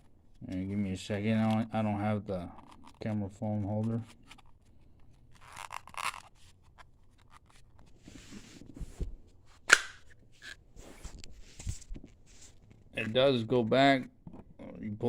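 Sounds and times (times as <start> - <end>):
rustling and scraping of objects: 0.0 - 13.3.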